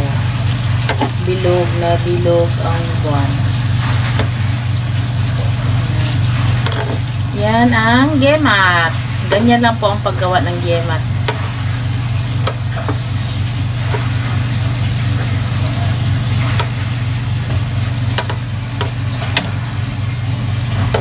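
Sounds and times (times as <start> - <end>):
dough deep-frying in oil: 0.0 - 21.0.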